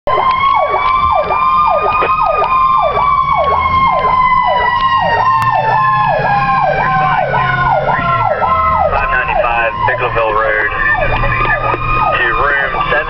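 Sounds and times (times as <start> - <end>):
low engine rumble: 0.1 - 13.0
siren yelp: 0.1 - 13.0
winding siren tone: 0.1 - 13.0.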